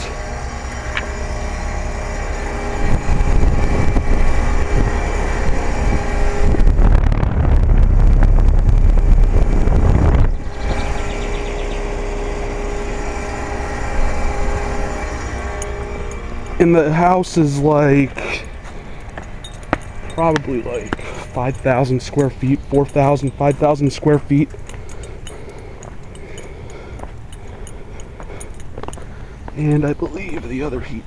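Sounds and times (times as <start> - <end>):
heat pump hum: 0.0 - 31.0
wind buffeting microphone: 0.0 - 31.0.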